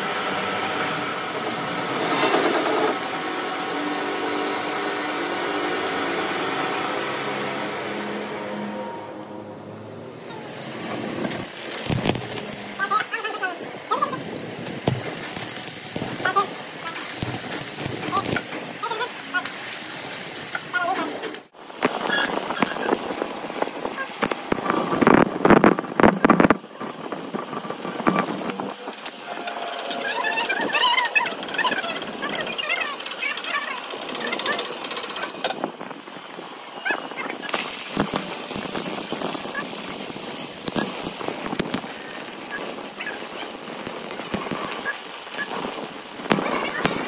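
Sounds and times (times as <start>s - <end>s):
welding arc crackling and sizzling: 0.0s - 3.7s, 10.7s - 36.1s, 37.3s - 47.0s.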